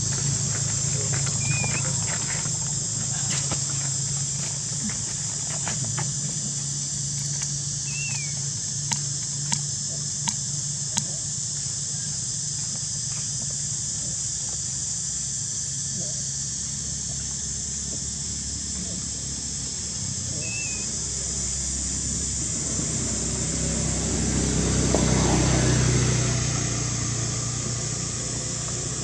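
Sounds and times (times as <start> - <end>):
high-pitched insect buzz: 0.0 - 29.0.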